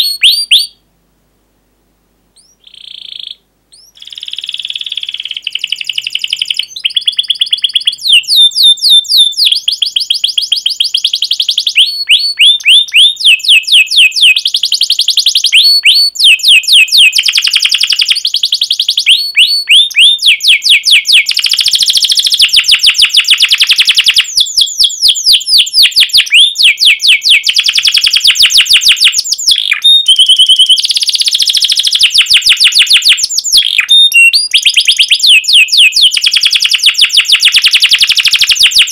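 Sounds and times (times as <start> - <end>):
canary singing trills: 0.0 - 0.8, 2.4 - 38.9.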